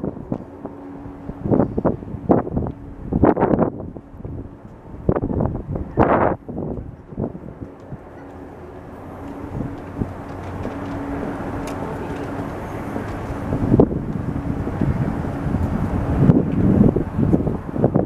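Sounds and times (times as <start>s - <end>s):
jet airliner engine rush: 0.0s - 18.0s
wind buffeting microphone: 0.0s - 18.0s.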